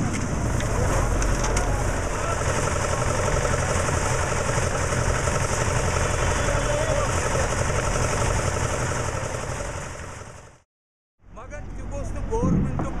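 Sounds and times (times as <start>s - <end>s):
concrete mixer engine running: 0.2s - 10.6s.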